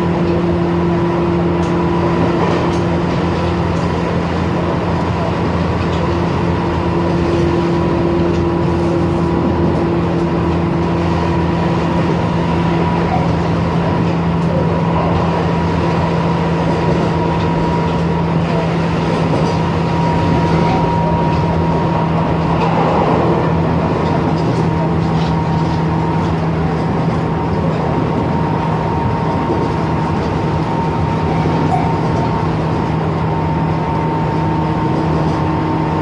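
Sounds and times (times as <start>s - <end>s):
train motor and gear hum: 0.0s - 36.0s
train wheels rolling on rails: 0.0s - 36.0s.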